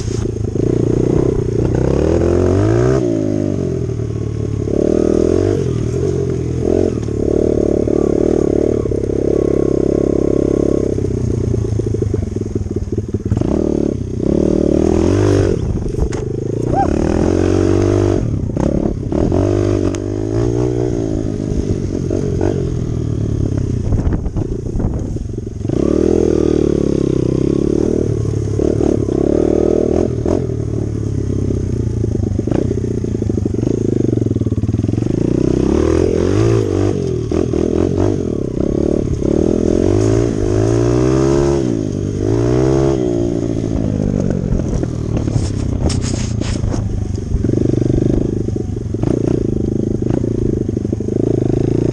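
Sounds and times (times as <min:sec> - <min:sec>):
dirt bike engine revving: 0:00.0 - 0:04.0, 0:04.6 - 0:11.2, 0:11.9 - 0:24.2, 0:32.3 - 0:51.9.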